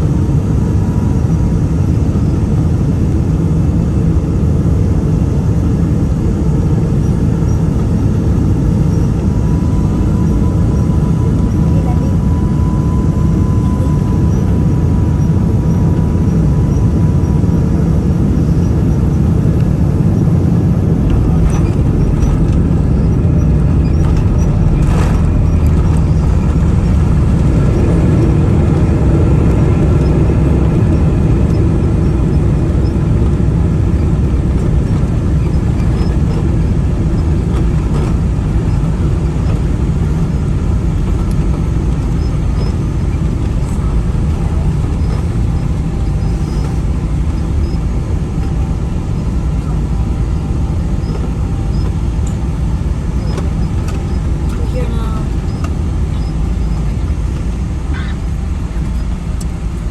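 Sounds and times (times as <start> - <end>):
airliner rumbling on ground: 0.0 - 59.9.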